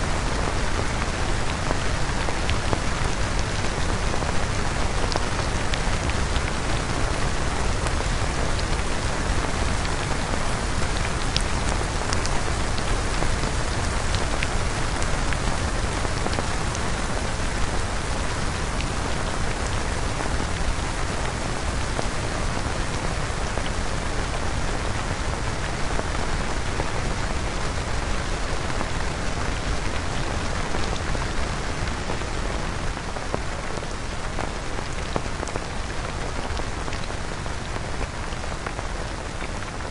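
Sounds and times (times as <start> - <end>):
dense hiss of rainfall: 0.0 - 39.9.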